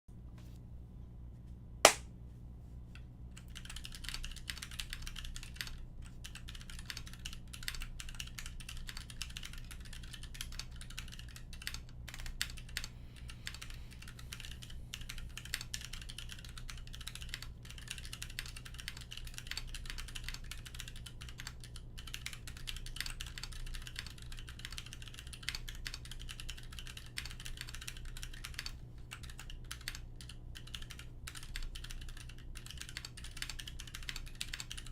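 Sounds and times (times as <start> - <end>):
steady low hum: 0.1 - 34.9
mechanical keyboard typing: 3.4 - 34.9.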